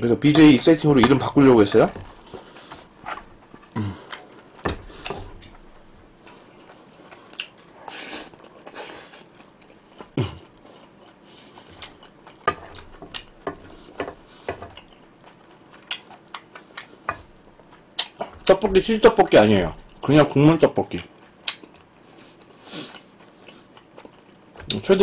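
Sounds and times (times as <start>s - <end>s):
person chewing food: 1.8s - 20.1s, 21.0s - 25.0s.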